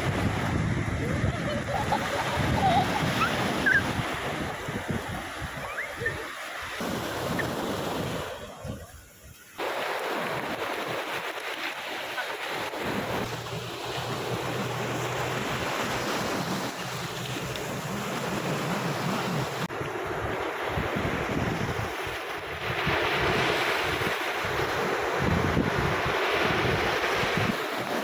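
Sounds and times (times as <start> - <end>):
wind buffeting microphone: 0.0 - 11.5, 12.6 - 27.9
sea waves washing onto beach: 0.0 - 28.0.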